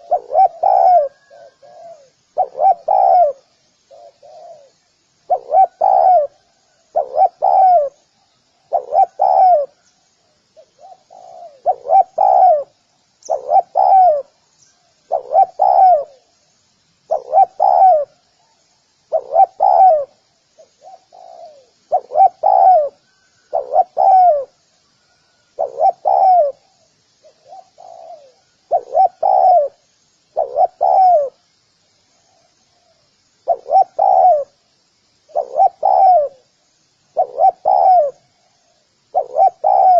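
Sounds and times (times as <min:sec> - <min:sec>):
dove cooing: 0:00.0 - 0:08.0, 0:08.6 - 0:09.9, 0:10.6 - 0:14.4, 0:15.0 - 0:16.3, 0:17.1 - 0:31.4, 0:32.4 - 0:34.6, 0:35.3 - 0:36.5, 0:37.1 - 0:39.9.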